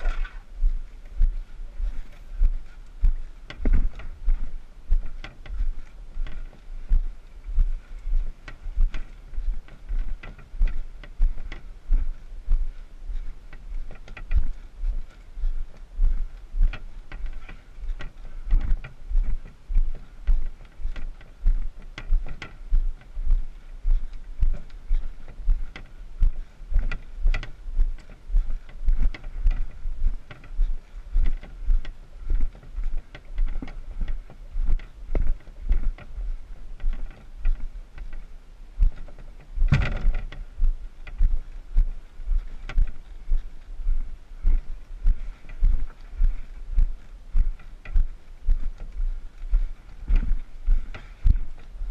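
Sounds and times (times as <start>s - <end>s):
canoe knocking and creaking: 0.0s - 43.6s, 44.4s - 51.7s
footsteps on rocky dirt trail: 0.0s - 51.9s.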